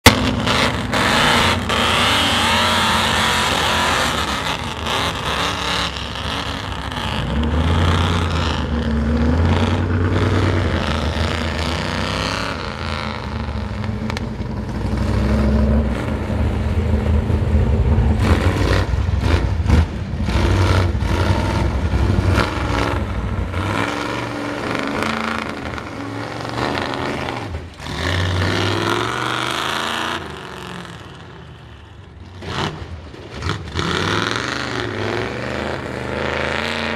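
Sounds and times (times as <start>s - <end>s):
truck engine revving: 0.0s - 36.9s.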